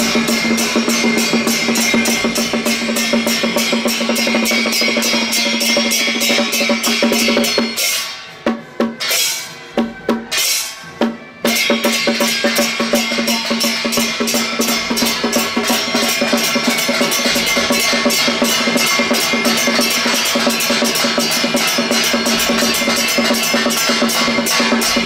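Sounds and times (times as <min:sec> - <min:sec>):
cymbals ringing: 0:00.0 - 0:25.0.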